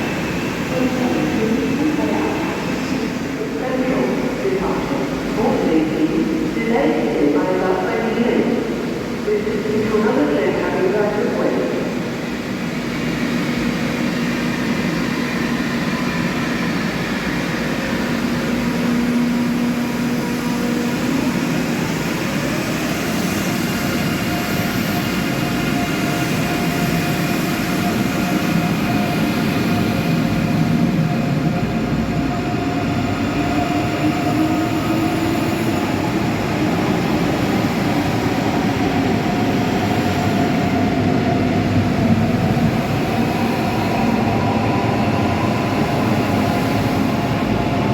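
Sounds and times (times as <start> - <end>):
train rumbling: 0.0 - 47.9.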